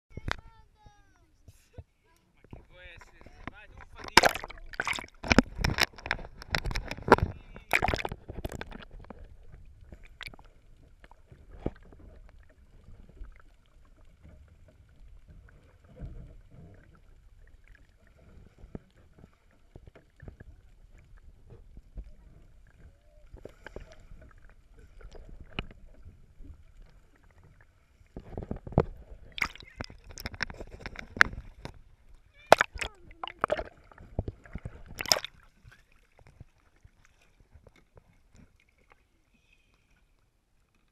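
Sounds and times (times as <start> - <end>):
muffled underwater sound: 0.1 - 36.5
faint underwater clicks and gurgles: 0.1 - 40.9
water splashing: 2.2 - 40.8.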